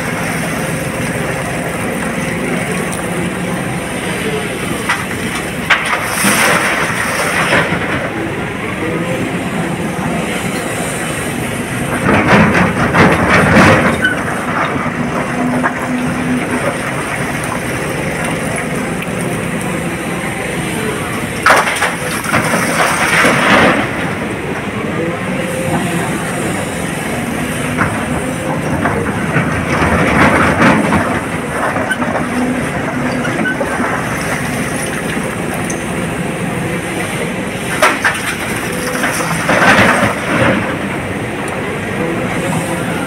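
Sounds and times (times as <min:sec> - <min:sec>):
excavator engine and hydraulics: 0:00.0 - 0:43.0.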